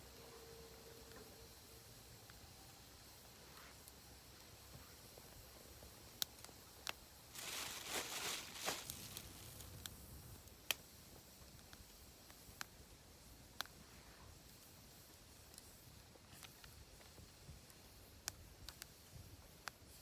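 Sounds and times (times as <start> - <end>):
rustling hiss: 0.0 - 20.0
wood fire crackling: 1.0 - 20.0.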